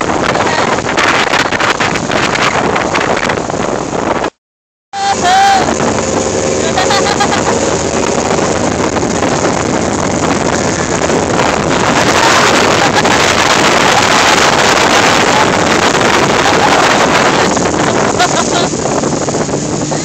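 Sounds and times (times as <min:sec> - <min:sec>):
wind buffeting the microphone: 0:00.0 - 0:04.3, 0:05.0 - 0:20.0
hull rushing through water: 0:00.0 - 0:04.4, 0:05.0 - 0:20.0
motorboat running at speed: 0:00.0 - 0:04.4, 0:05.0 - 0:20.0.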